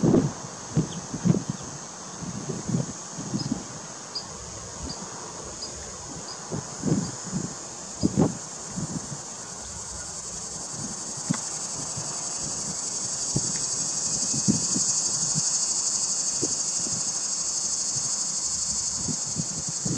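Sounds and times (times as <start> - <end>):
high-pitched insect chorus: 0.0 - 19.9.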